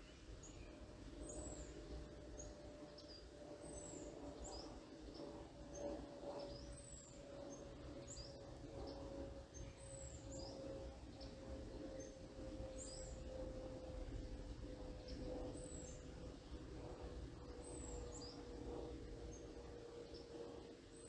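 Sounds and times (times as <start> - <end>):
plane droning overhead: 0.0 - 21.0
songbirds chirping: 0.0 - 21.0.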